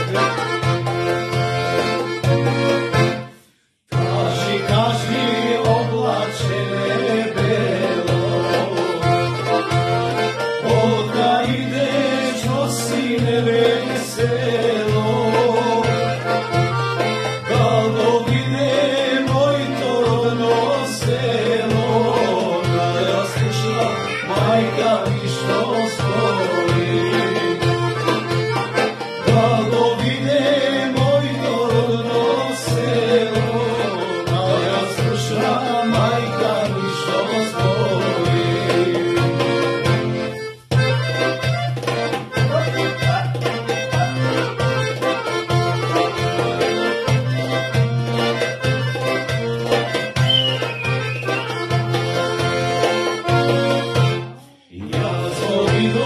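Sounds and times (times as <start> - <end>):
accordion: 0.0 - 56.0
low rhythmic beat: 0.0 - 56.0.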